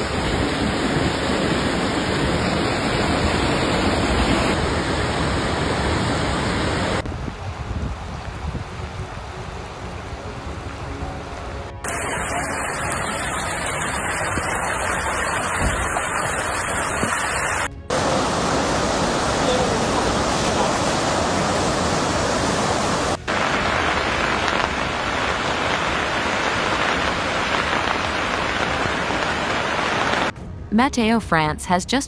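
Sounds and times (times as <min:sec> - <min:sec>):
floodwater rushing: 0:00.0 - 0:30.3.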